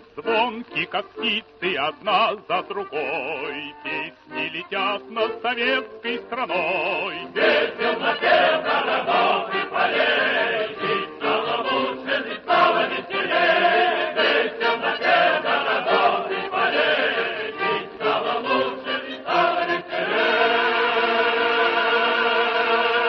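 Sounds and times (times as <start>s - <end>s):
choir singing: 1.7s - 23.0s.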